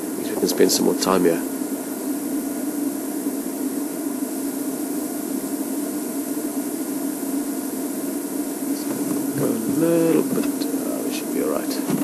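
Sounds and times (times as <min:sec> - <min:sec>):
even hiss: 0:00.0 - 0:12.0.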